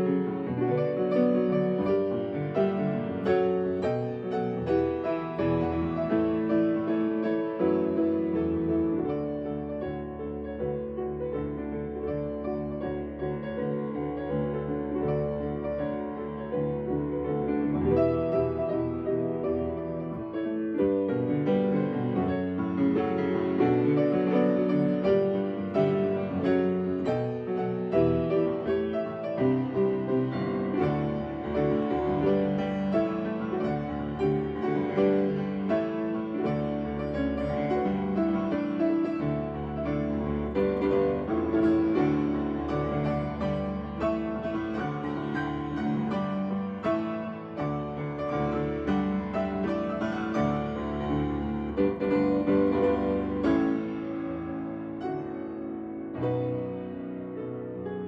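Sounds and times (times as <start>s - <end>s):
solo piano playing pop song: 0.0s - 58.0s.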